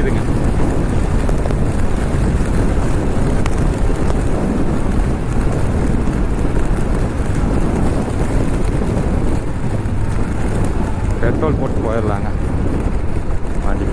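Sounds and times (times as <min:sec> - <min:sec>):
motorcycle engine running: 0:00.0 - 0:13.9
wind buffeting microphone: 0:00.0 - 0:13.9.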